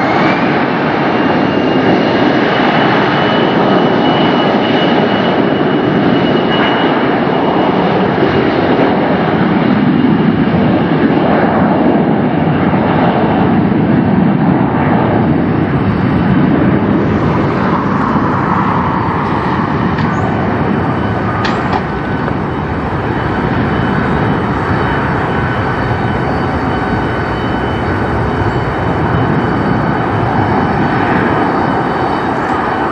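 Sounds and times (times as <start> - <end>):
jet engines at takeoff: 0.0 - 32.9.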